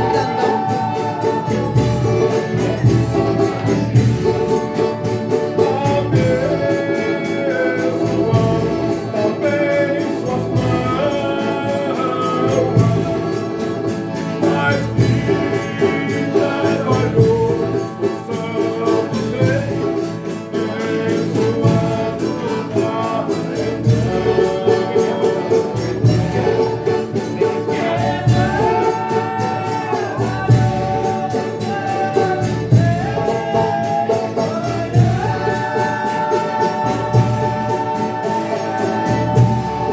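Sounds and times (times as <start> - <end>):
group singing in harmony: 0.0 - 39.9
tambourine: 0.0 - 39.9.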